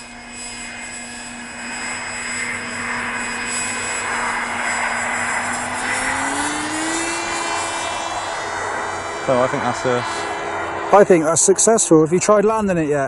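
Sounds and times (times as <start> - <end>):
model plane electric motor: 0.0 - 12.9.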